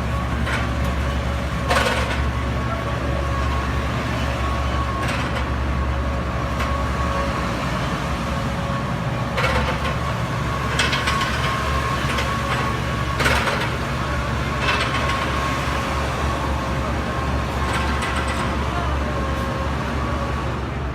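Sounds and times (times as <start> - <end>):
excavator engine humming: 0.0 - 20.9.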